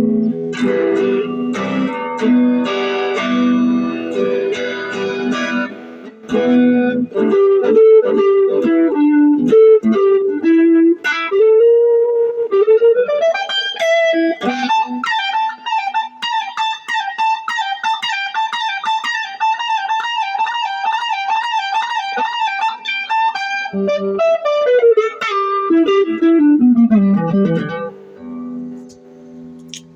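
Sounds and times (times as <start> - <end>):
overdriven electric guitar lead: 0.0 - 29.9.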